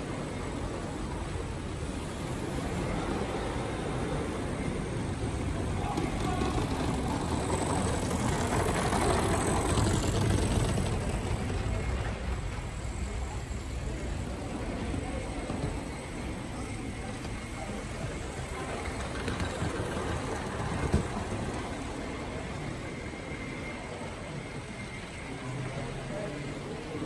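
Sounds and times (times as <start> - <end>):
exhibition hall rumble: 0.0 - 27.0.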